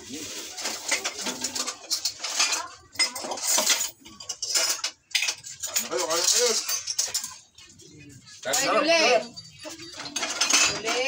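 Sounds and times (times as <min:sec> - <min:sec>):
dishes and utensils clinking: 0:00.0 - 0:11.0.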